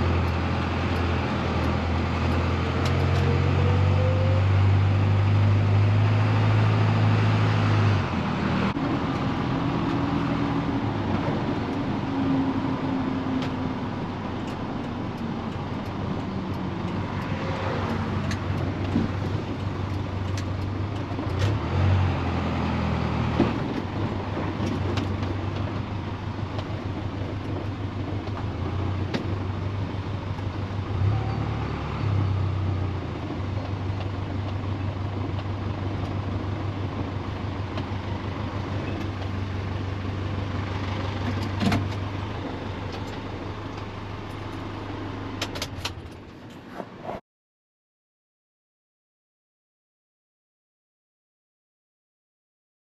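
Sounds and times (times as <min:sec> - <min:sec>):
vehicle engine and road noise: 0:00.0 - 0:47.2.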